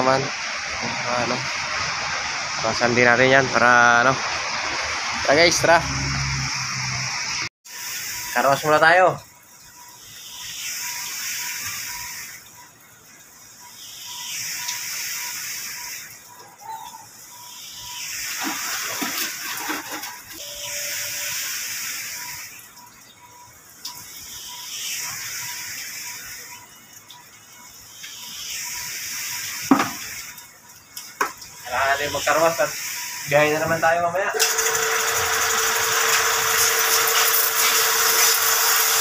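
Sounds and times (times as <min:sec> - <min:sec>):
water spraying with a hiss: 0:00.0 - 0:39.0.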